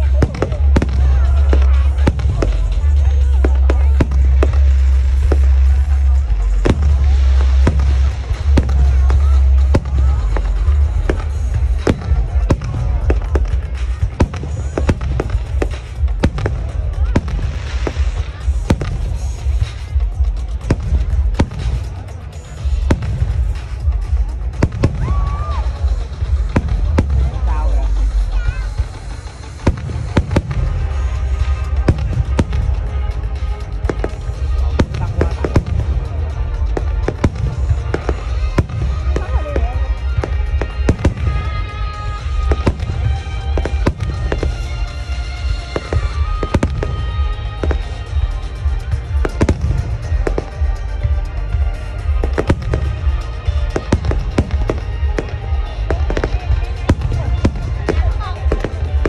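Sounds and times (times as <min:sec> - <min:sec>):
fireworks cracking: 0:00.0 - 0:59.0
music playing: 0:00.0 - 0:59.0.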